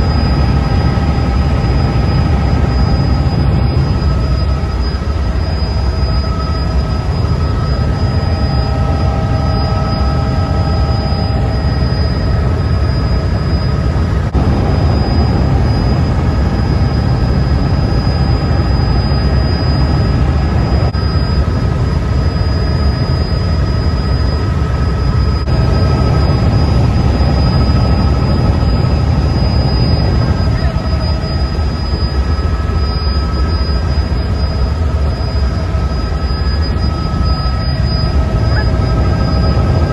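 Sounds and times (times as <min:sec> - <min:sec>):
helicopter rotor and engine rumble: 0:00.0 - 0:39.9
high whine: 0:00.0 - 0:39.9.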